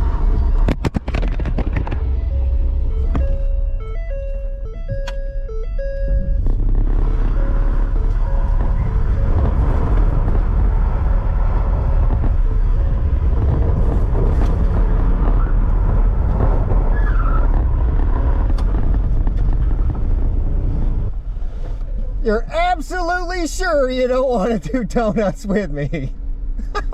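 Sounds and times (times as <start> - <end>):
car engine rumble: 0.0 - 26.9.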